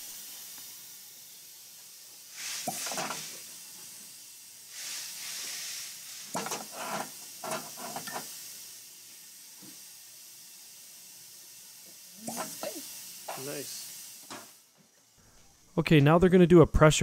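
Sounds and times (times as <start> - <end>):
air hissing and sucking: 0.0 - 15.7.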